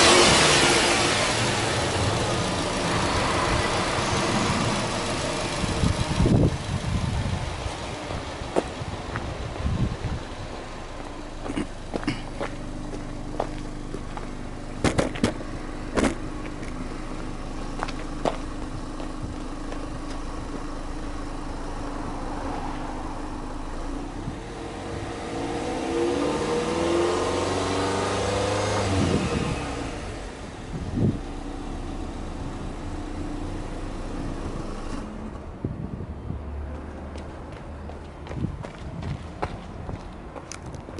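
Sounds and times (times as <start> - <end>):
car exhaust idling and revving: 0.0 - 40.9.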